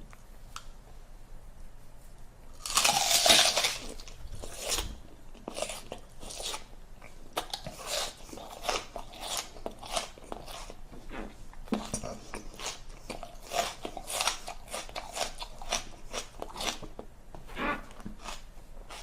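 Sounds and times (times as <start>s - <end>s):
person chewing raw onion: 2.5s - 19.0s.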